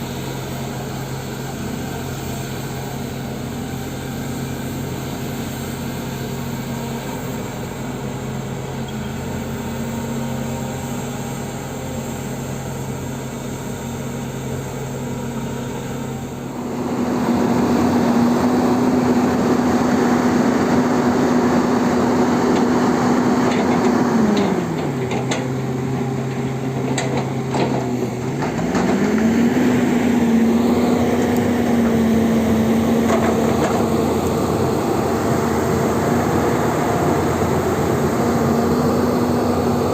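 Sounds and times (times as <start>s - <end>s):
excavator diesel engine revving: 0.0s - 39.9s.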